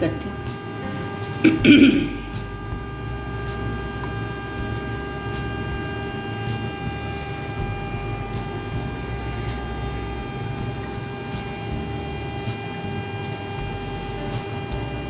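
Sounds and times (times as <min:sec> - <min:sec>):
high whine: 0:00.0 - 0:15.0
steady mechanical hum: 0:00.0 - 0:15.0.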